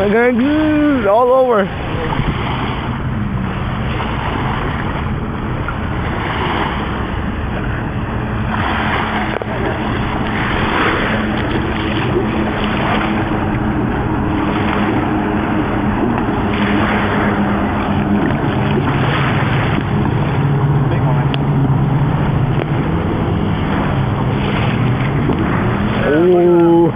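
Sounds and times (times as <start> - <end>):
surf washing on beach: 0.0 - 26.9
wind buffeting microphone: 0.0 - 26.9.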